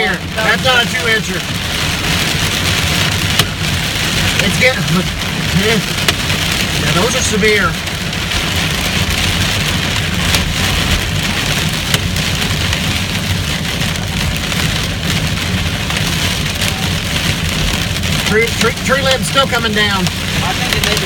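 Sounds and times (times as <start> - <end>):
hailstones pelting vehicle roof: 0.0 - 21.0.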